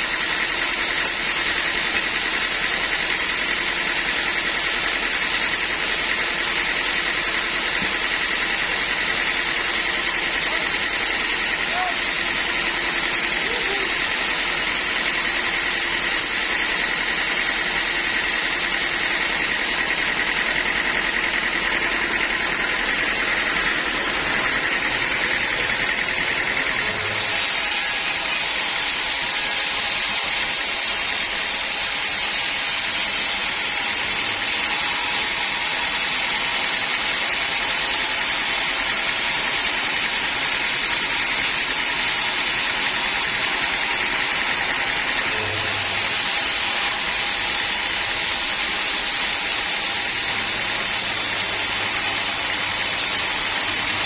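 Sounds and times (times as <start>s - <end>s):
band sawmill sawing log: 0.0s - 54.0s.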